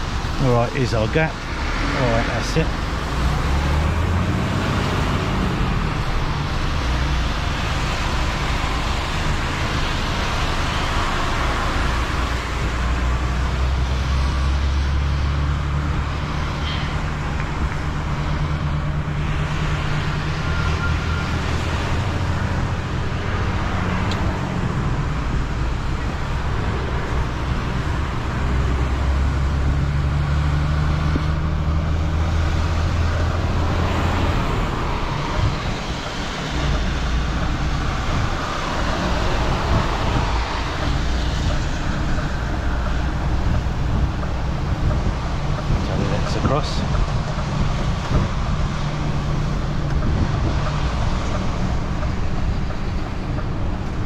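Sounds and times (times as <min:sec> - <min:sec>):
road noise: 0:00.0 - 0:54.0
truck diesel engine under load: 0:00.0 - 0:54.0.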